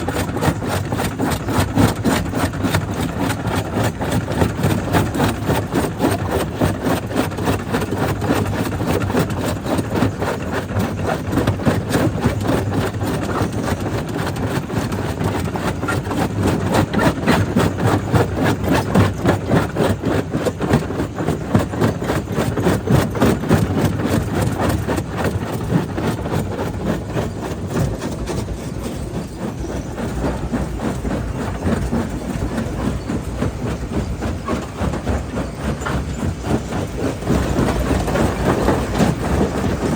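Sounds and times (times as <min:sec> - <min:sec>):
jaw crusher crushing stone: 0:00.0 - 0:39.9.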